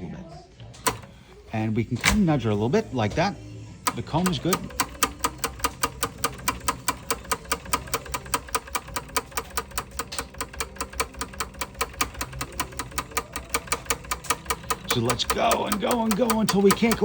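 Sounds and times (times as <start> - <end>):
typewriter carriage clicking rapidly: 0.8 - 1.3, 2.0 - 2.4, 3.8 - 17.0.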